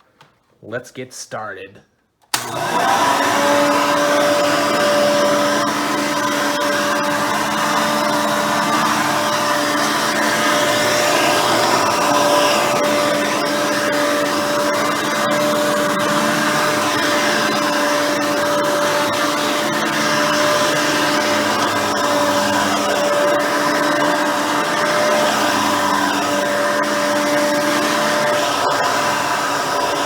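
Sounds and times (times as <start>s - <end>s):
upright vacuum cleaner running: 2.3s - 30.0s.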